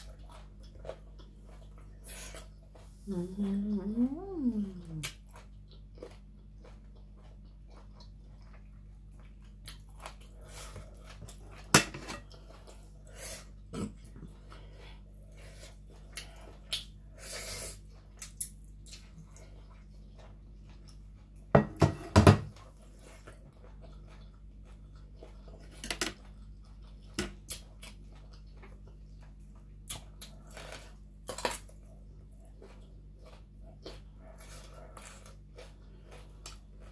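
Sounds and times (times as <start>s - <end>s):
chewing: 0.0s - 21.5s, 22.5s - 36.9s.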